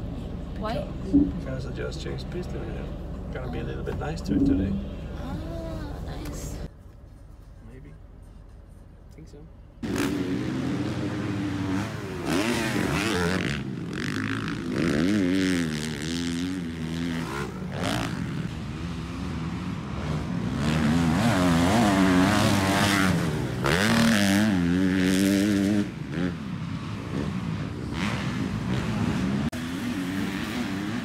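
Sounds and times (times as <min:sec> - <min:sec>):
dirt bike engines revving: 0:00.0 - 0:06.7, 0:09.8 - 0:31.0.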